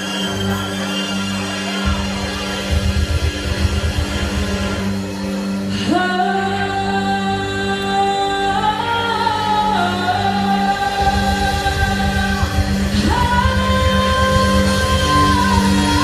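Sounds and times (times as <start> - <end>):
low rhythmic pulse: 0.0 - 16.0.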